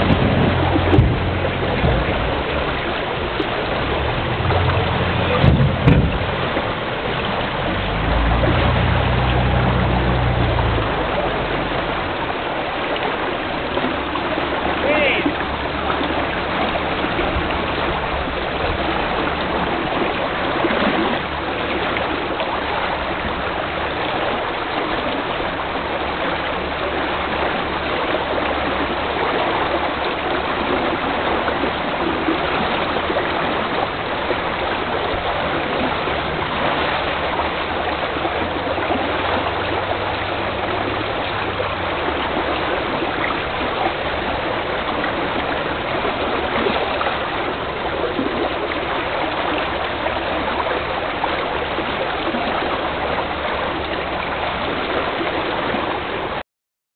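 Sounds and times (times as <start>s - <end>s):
fast-flowing river: 0.0s - 56.4s.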